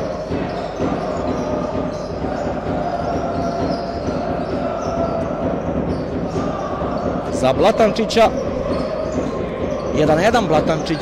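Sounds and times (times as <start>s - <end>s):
hall noise: 0.0s - 11.0s.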